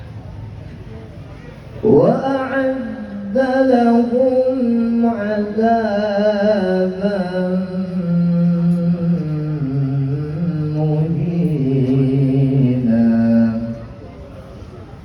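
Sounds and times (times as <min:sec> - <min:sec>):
man reciting melodically: 0:01.8 - 0:13.9.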